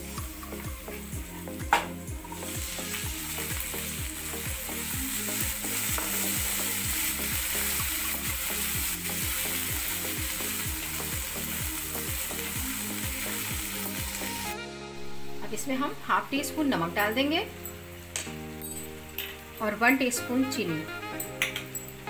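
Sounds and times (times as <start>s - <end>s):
peas hissing in hot oil: 0.0s - 22.0s
steady sizzling: 0.0s - 22.0s.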